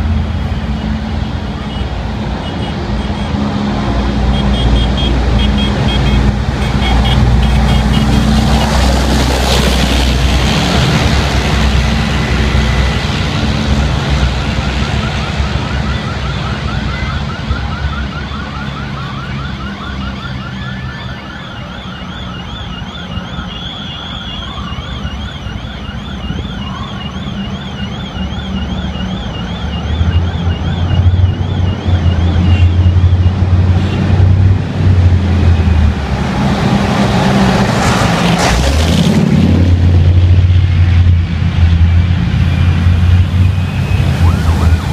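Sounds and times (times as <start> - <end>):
tank engines passing: 0.0 - 44.9
warbling siren: 0.4 - 33.8, 39.8 - 44.9.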